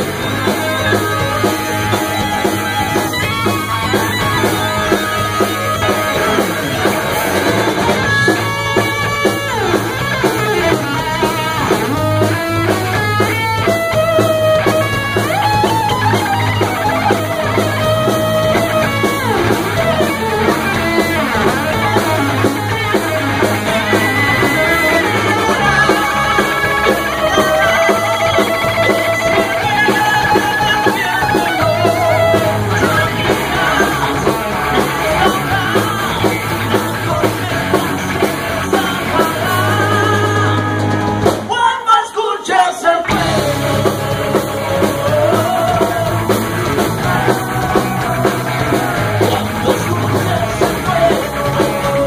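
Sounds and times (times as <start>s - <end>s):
live rock band playing: 0.0s - 52.0s
singer: 0.0s - 52.0s.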